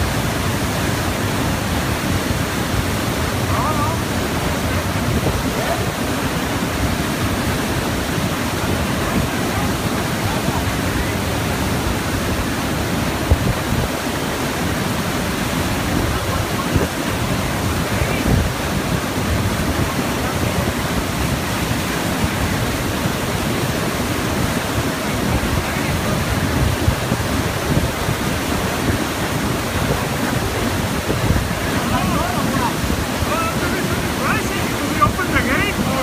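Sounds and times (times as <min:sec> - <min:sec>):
water rushing through turbine: 0:00.0 - 0:36.0.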